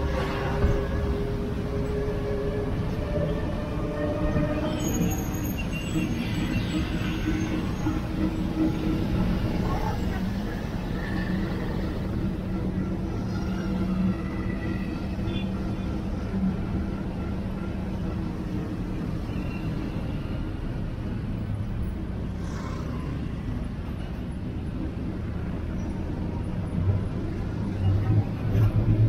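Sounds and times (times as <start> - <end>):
road noise: 0.0 - 29.0.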